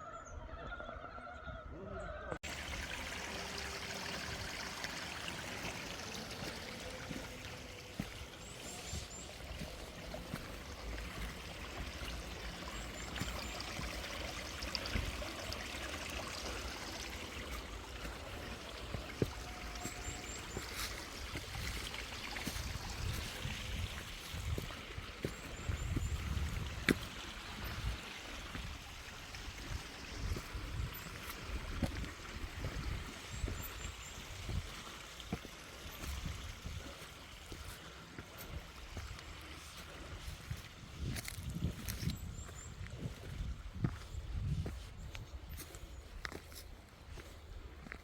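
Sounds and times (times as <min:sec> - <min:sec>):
stream rushing water: 0:02.4 - 0:44.7.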